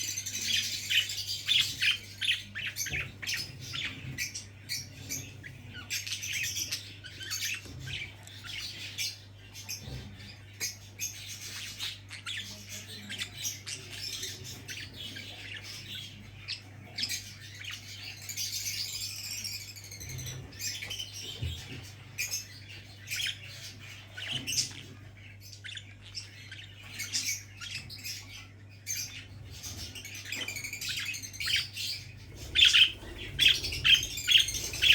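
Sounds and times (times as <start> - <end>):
parrots chirping and squawking: 0.0 - 34.9.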